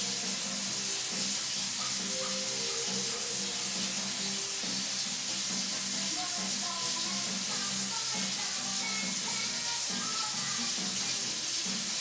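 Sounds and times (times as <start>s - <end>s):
faint music: 0.0s - 12.0s
steady hiss: 0.0s - 12.0s.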